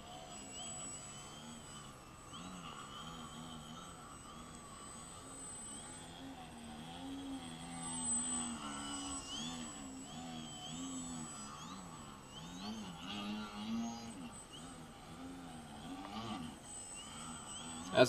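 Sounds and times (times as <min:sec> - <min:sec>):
model plane motor buzzing: 0:00.0 - 0:18.0
thin high whine: 0:00.0 - 0:18.0.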